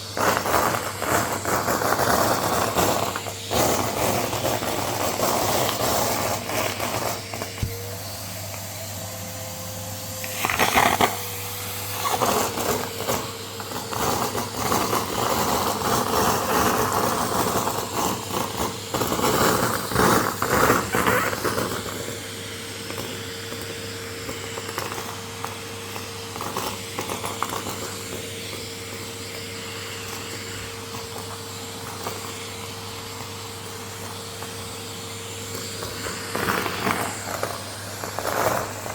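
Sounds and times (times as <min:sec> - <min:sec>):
paper crackling up vacuum nozzle: 0:00.0 - 0:33.7, 0:35.5 - 0:38.9
vacuum cleaner running: 0:00.0 - 0:38.9.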